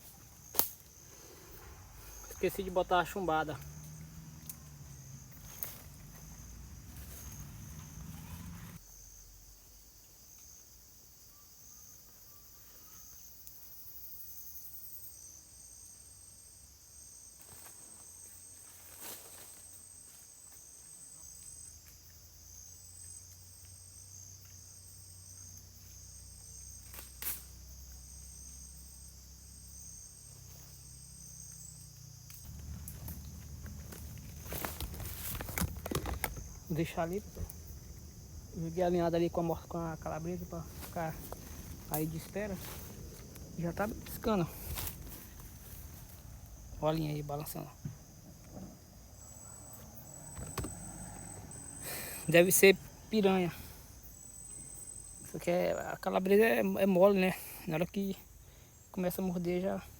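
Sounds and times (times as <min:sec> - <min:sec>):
insects shrilling: 0:00.0 - 0:09.3, 0:17.4 - 0:59.9
pulsing insect chirp: 0:00.0 - 0:59.9.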